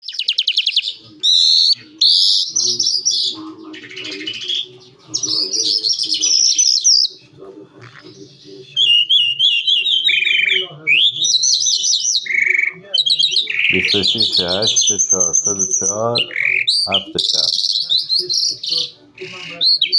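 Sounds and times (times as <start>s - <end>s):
lark singing warbling song: 0.0s - 7.2s, 7.8s - 19.9s.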